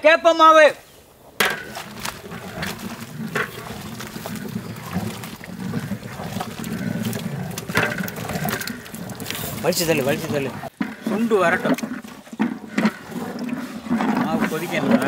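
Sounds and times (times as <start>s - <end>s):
slurry gushing into boiling water: 0.8s - 15.0s.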